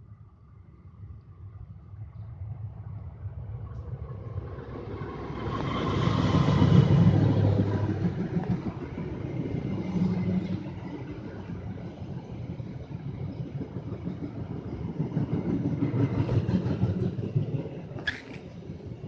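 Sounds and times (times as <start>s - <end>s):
diesel locomotive engine rumble: 0.0s - 19.0s
train running noise: 1.9s - 19.0s.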